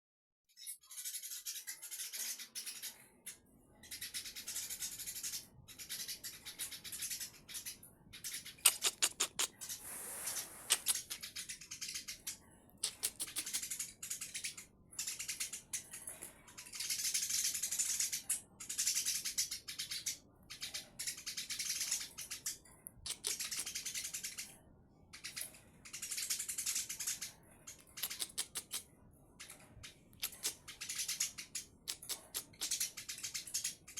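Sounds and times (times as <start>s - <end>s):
sparrows chirping: 0.5s - 33.9s.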